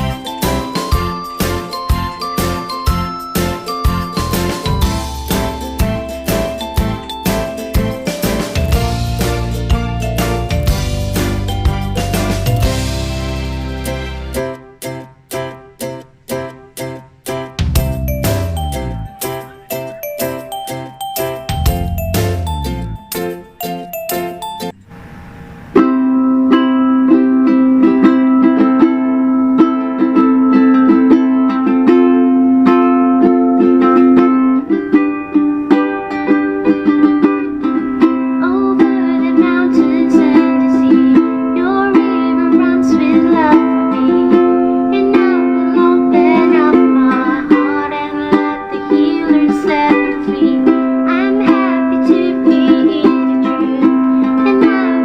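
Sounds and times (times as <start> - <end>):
ukulele strumming chords: 0.0 - 55.0.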